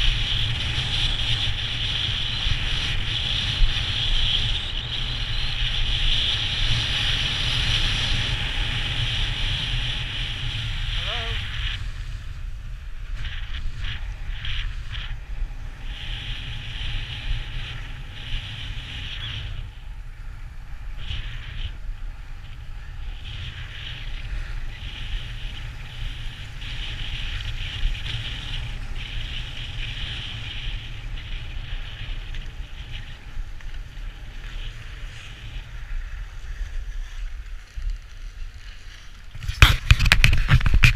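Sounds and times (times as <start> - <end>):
wind rushing over microphone: 0.0 - 40.9
skis scraping on snow: 0.1 - 40.9.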